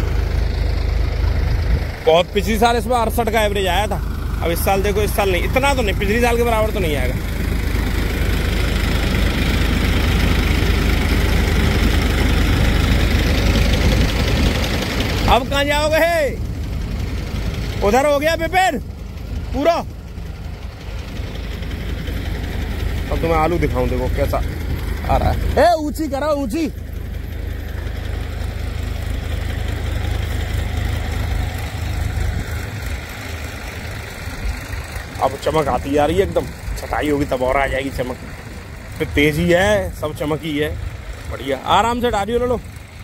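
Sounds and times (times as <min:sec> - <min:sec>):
tractor engine rumbling: 0:00.0 - 0:43.0.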